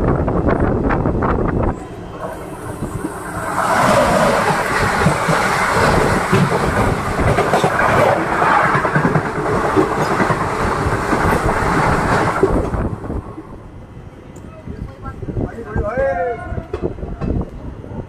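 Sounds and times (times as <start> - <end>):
passing train rush and clatter: 0.0 - 18.0.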